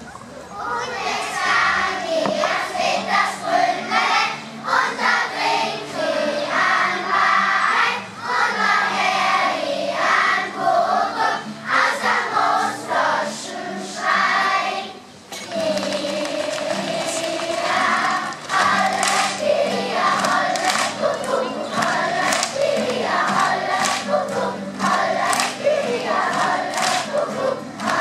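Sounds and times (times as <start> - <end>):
acoustic guitar accompaniment: 0.0 - 28.0
children's choir singing: 0.0 - 28.0.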